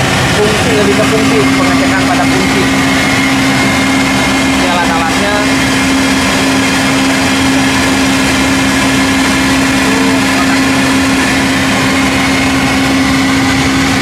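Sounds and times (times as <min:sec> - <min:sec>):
loud machinery drone: 0:00.0 - 0:14.0.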